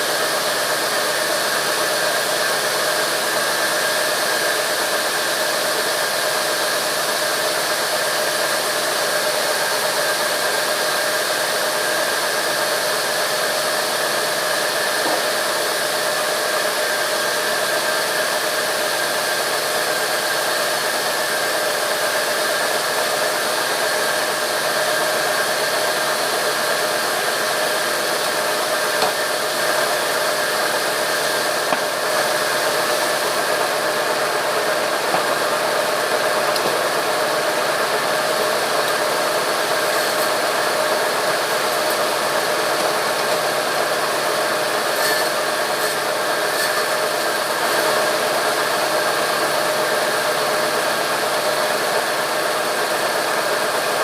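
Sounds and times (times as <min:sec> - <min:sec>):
sawmill machinery hiss and whine: 0:00.0 - 0:54.0.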